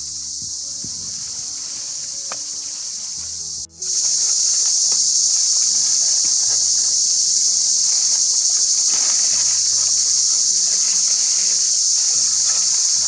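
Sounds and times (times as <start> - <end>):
insect chorus hissing: 0.0 - 13.0.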